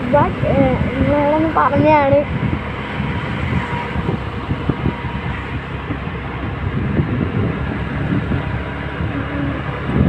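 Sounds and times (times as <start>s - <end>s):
road and wind noise: 0.0s - 10.0s
wind buffeting microphone: 0.0s - 10.0s.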